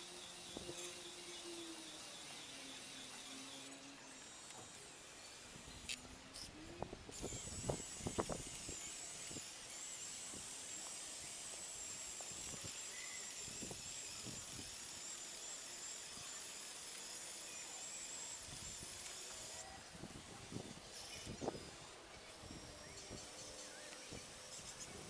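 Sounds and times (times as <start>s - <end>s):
small electric motors whining: 0.0s - 25.0s.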